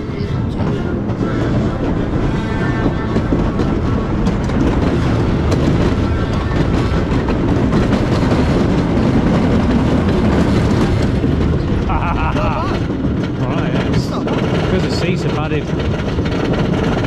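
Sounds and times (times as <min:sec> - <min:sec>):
roller coaster wheels rumbling: 0:00.0 - 0:17.0
sharp clicks and clatter: 0:00.4 - 0:17.0.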